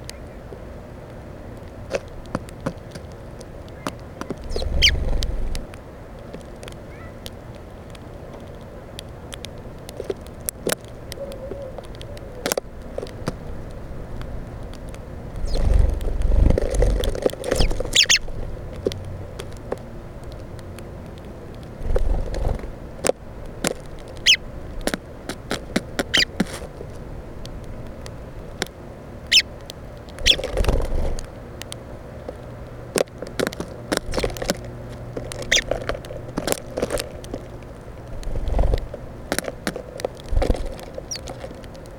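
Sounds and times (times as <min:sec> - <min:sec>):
beaks pecking on plastic feeder: 0:01.6 - 0:41.9.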